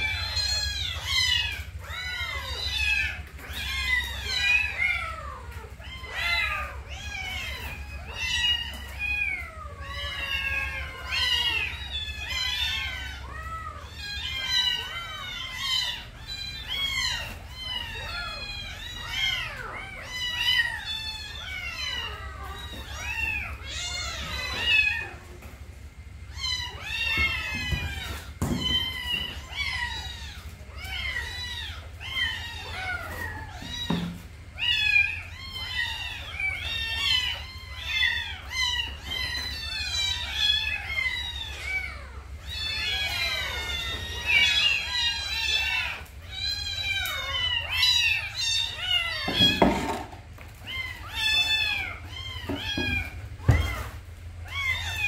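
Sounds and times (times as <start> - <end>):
kittens meowing: 0.0 - 55.0.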